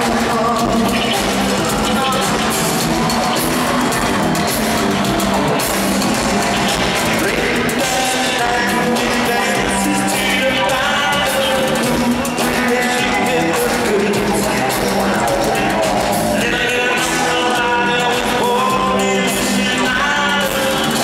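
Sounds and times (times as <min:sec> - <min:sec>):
man singing into microphone: 0:00.0 - 0:03.2, 0:06.6 - 0:21.0
drums: 0:00.0 - 0:21.0
electric bass guitar: 0:00.0 - 0:21.0.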